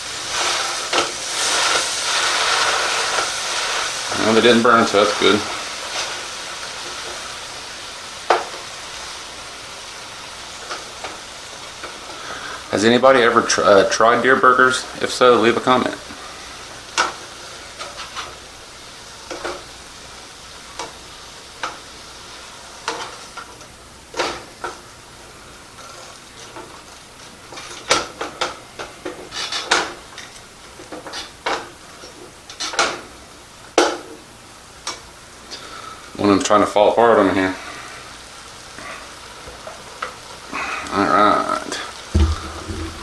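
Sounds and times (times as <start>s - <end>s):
burgers sizzling in a frying pan: 0.0s - 43.0s.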